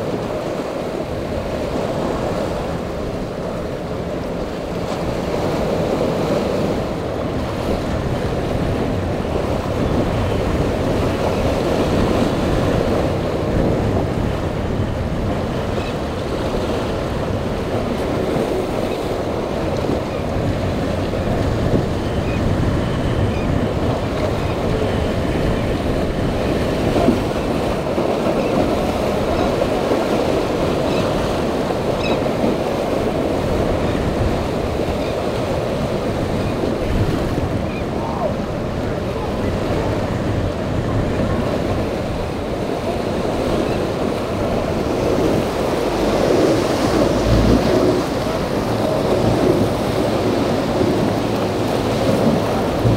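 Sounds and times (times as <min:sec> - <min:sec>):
boats running through water: 0:00.0 - 0:52.9
waves breaking: 0:00.0 - 0:52.9
wind noise on microphone: 0:00.0 - 0:52.9.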